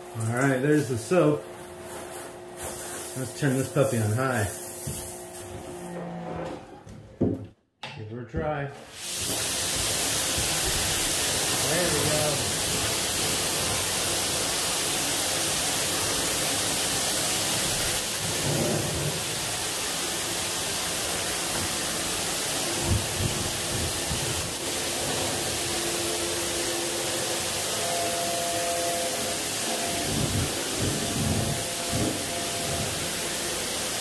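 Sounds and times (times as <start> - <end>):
pressure washer spray hissing: 1.9 - 5.4, 8.9 - 34.0.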